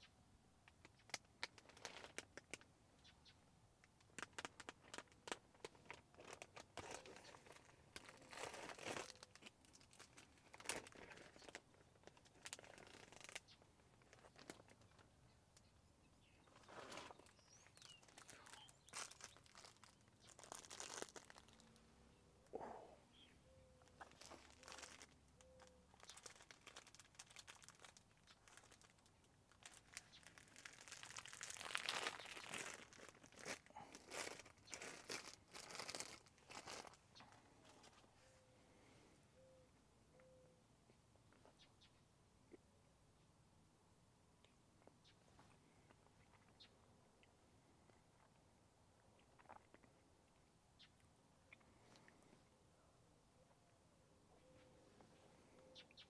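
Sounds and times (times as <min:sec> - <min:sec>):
faint rustling and crinkling: 0:00.6 - 0:03.1, 0:03.8 - 0:39.2, 0:44.8 - 0:52.6.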